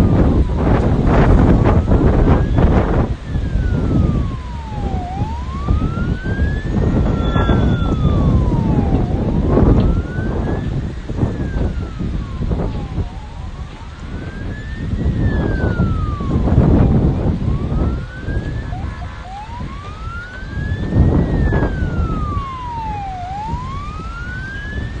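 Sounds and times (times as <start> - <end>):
emergency siren wailing: 0.0 - 25.0
loud low rumbling: 0.0 - 25.0.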